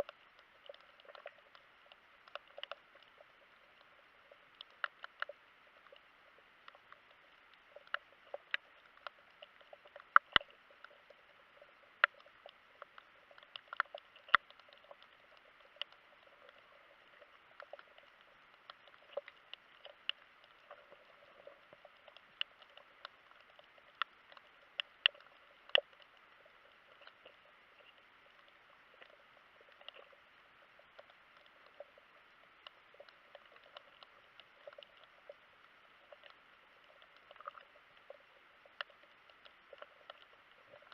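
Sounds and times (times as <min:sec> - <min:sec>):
faint underwater hiss: 0:00.0 - 0:40.9
underwater clicks and crackles: 0:00.0 - 0:40.9.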